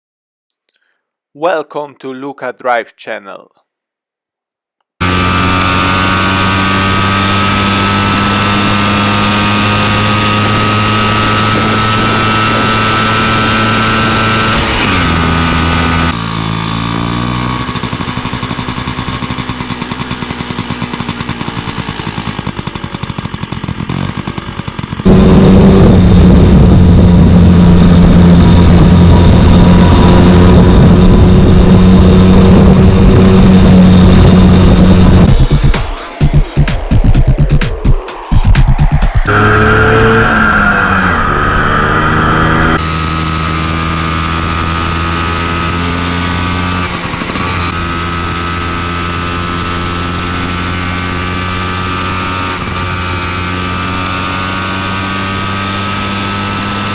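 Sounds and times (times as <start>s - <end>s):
scooter engine running: 5.0s - 37.4s, 38.7s - 56.9s.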